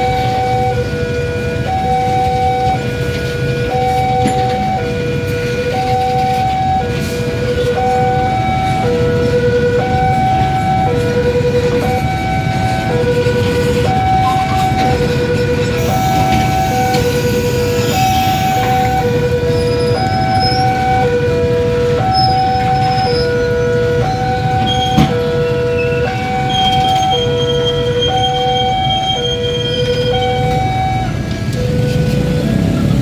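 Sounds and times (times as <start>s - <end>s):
level crossing two-tone alarm: 0.0s - 33.0s.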